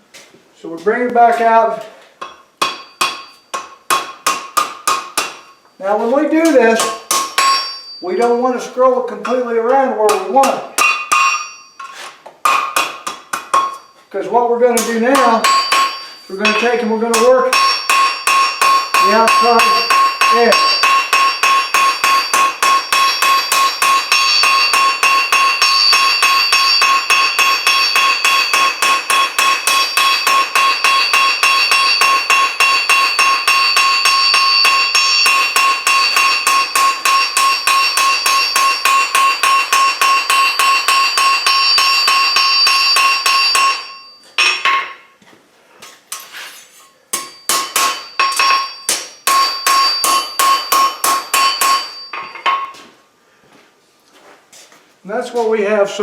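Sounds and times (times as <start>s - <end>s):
hammer striking metal on anvil: 2.2s - 5.8s, 6.4s - 8.4s, 10.1s - 14.0s, 14.8s - 45.1s, 47.1s - 52.9s
anvil ringing: 2.2s - 14.0s, 14.7s - 45.1s, 47.1s - 52.9s.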